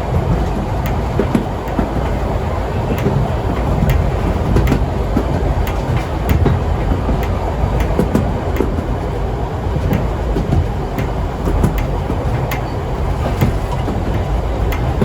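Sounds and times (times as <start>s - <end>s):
train rumbling on track: 0.0s - 15.0s
wheels clicking on rails: 0.0s - 15.0s.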